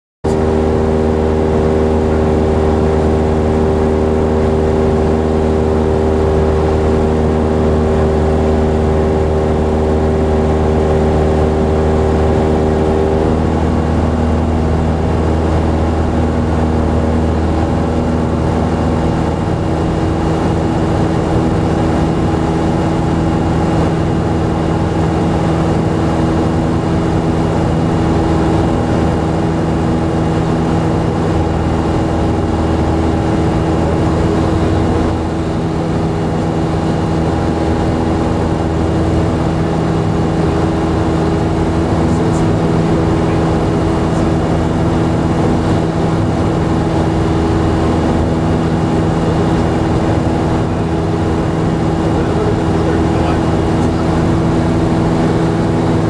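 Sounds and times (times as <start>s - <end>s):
aircraft engine and propeller droning: 0.2s - 56.0s.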